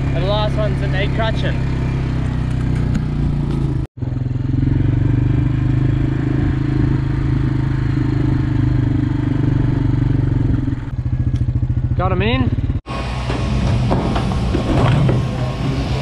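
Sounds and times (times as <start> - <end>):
farm vehicle engine running: 0.0 - 16.0.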